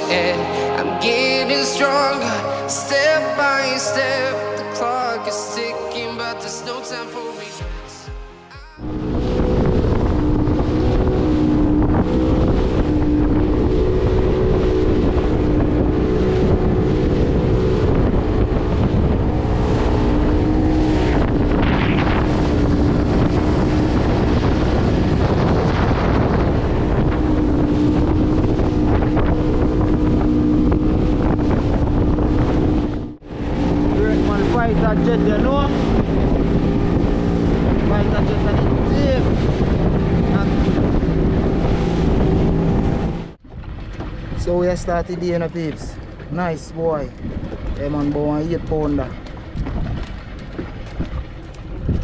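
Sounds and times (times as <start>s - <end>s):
water rushing: 0.0s - 52.0s
outboard motor running: 8.8s - 52.0s
wind on microphone: 8.8s - 52.0s.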